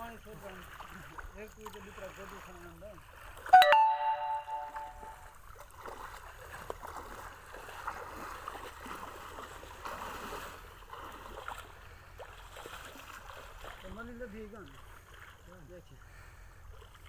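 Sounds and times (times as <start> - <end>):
water sloshing and splashing: 0.0 - 3.5, 5.4 - 17.0.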